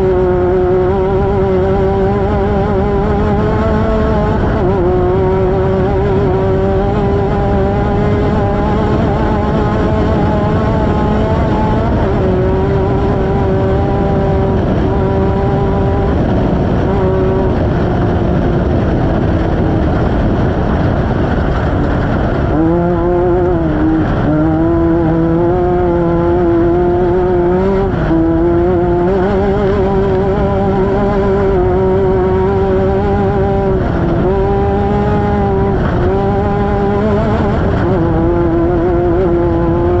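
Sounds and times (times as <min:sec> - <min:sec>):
engine running at high revs: 0:00.0 - 0:40.0
heavy constant noise: 0:00.0 - 0:40.0.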